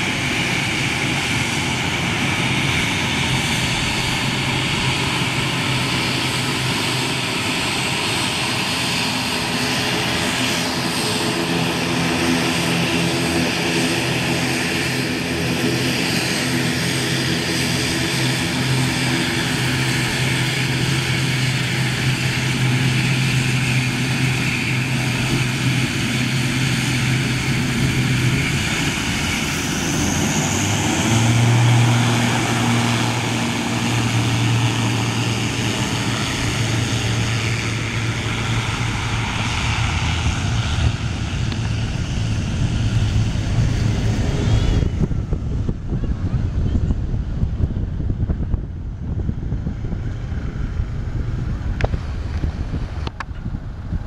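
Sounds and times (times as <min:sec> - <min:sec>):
propeller aircraft engines droning: 0:00.0 - 0:54.0.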